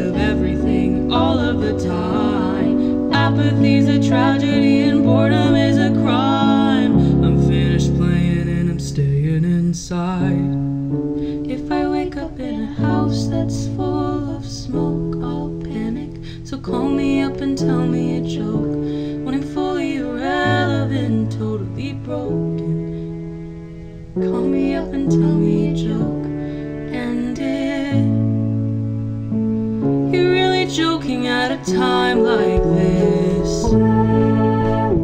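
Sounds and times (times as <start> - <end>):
woman singing slow song: 0.0 - 10.6, 11.2 - 23.2, 24.1 - 28.6, 30.0 - 35.0.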